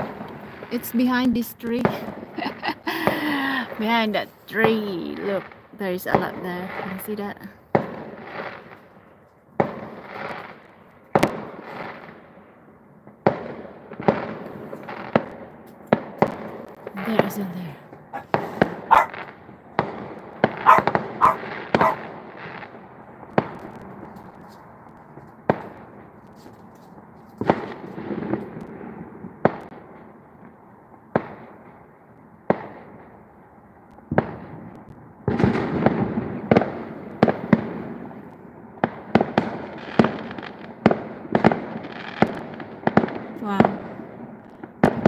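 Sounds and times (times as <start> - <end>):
fireworks crackling: 0.0 - 31.8, 34.0 - 45.0
distant fireworks bangs: 0.0 - 33.2, 33.9 - 45.0.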